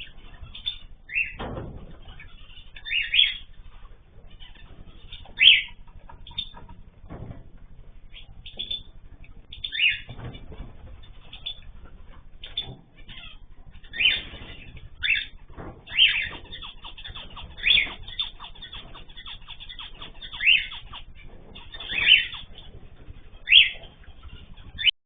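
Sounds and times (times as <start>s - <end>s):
chatter of faint bird chirps: 0.0s - 25.0s.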